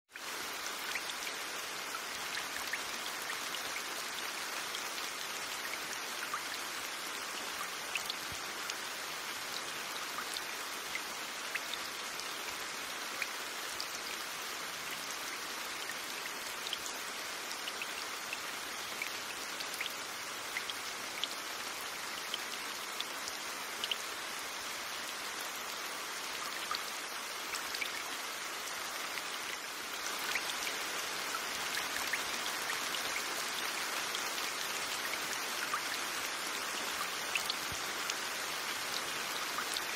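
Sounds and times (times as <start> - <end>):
steady rain hiss: 0.1 - 39.9.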